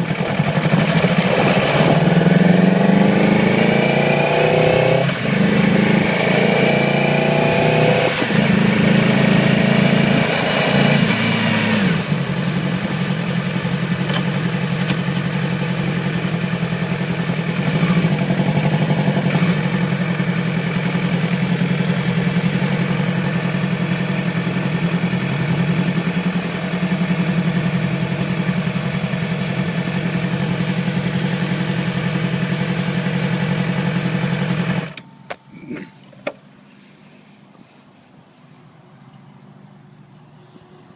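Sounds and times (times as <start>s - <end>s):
motorcycle engine revving and idling: 0.0s - 36.3s.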